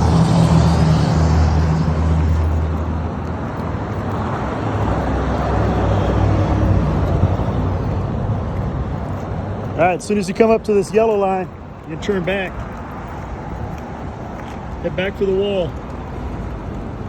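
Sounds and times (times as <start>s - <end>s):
engine rumbling: 0.0s - 17.0s
traffic noise: 0.0s - 17.0s.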